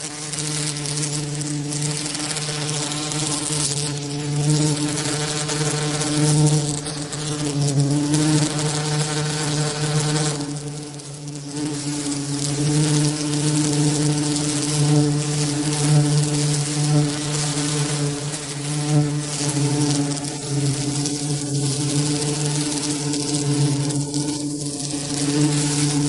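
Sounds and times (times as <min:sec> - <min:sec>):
bee buzzing: 0:00.0 - 0:26.0.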